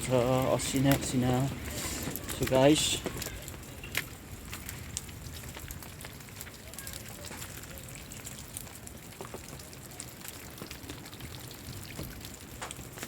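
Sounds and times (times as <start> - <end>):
hailstones striking: 0.0 - 13.0
heavy rain hissing: 0.0 - 13.0.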